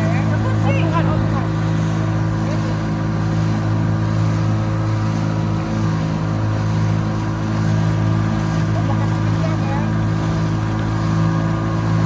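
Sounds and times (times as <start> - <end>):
motorboat engine humming: 0.0 - 12.0
rushing water: 0.0 - 12.0
wind: 0.0 - 12.0.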